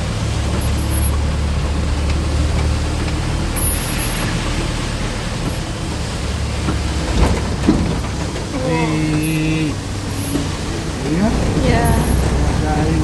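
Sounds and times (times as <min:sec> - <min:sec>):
road vehicle rumble: 0:00.0 - 0:13.0.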